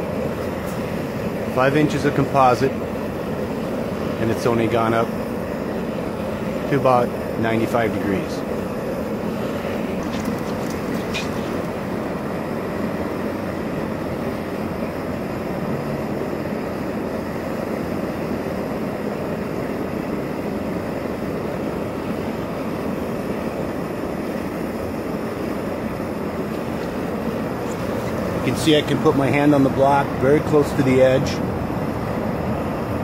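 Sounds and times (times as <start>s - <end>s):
gas torch flame rushing: 0.0s - 33.0s.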